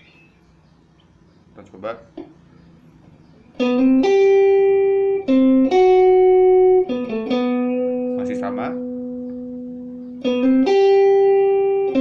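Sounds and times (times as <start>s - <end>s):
electric guitar slow melody: 2.2s - 12.0s.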